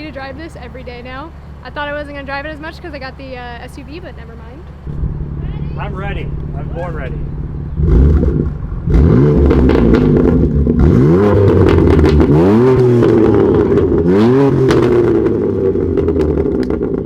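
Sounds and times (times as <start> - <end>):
car engine idling and revving: 0.0 - 17.0
exhaust crackles: 0.0 - 17.0.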